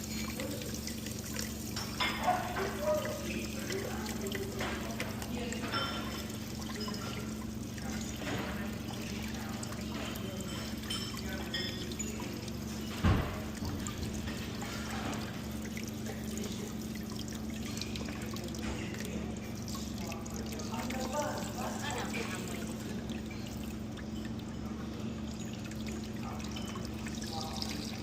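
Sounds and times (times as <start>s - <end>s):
water pouring from faucet: 0.0s - 28.0s.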